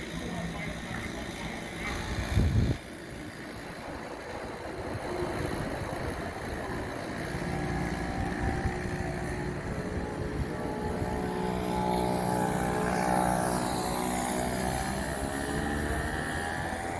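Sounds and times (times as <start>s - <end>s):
go-kart engine running: 0.0s - 16.9s.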